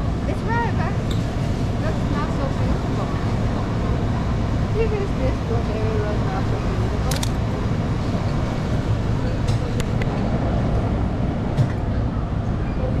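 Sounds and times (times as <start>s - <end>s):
low rumble of shop: 0.0s - 13.0s.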